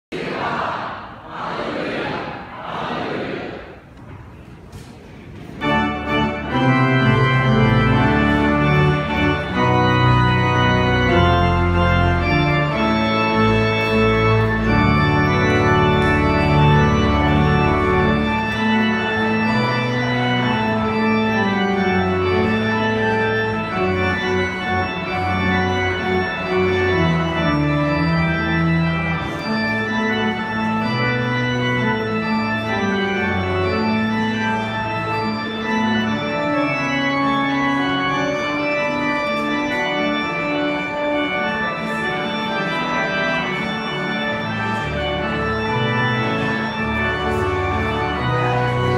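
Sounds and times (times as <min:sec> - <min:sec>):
church organ chords: 0:05.3 - 0:48.9
deep organ bass notes: 0:05.6 - 0:48.9.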